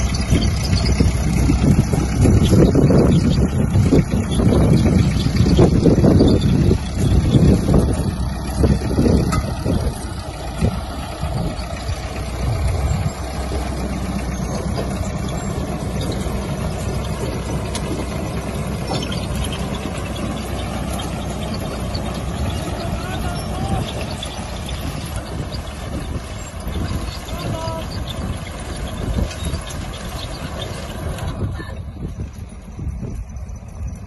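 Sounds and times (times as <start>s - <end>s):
tractor engine running: 0.0s - 34.0s
wind buffeting microphone: 0.0s - 34.0s.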